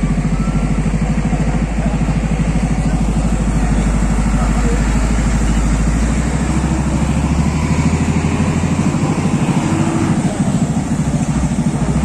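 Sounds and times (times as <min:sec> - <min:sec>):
truck diesel engine throbbing: 0:00.0 - 0:12.0.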